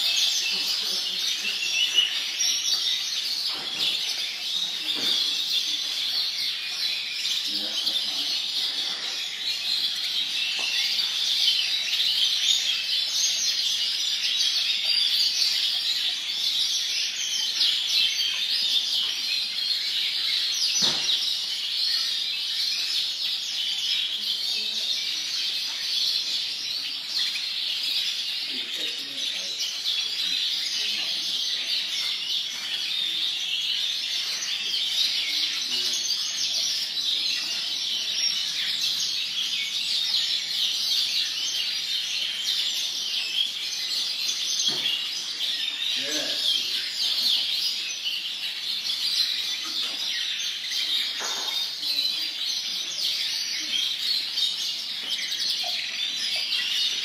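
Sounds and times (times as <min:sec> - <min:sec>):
canaries chirping and singing: 0:00.0 - 0:57.0.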